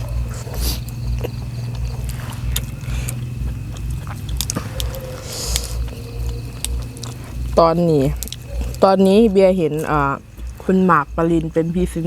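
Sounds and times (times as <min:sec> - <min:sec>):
chewing: 0:00.0 - 0:10.8
steady low hum: 0:00.0 - 0:12.0.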